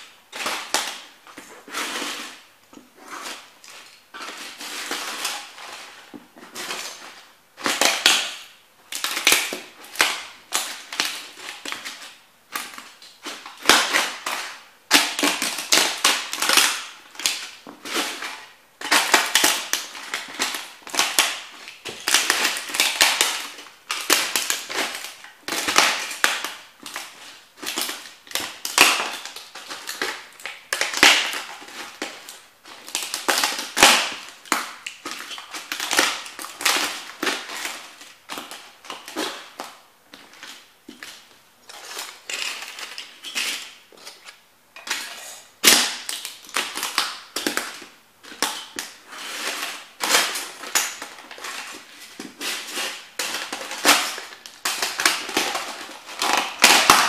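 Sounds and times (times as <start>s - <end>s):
plastic cracking under boots: 0.0s - 45.0s, 45.6s - 57.0s.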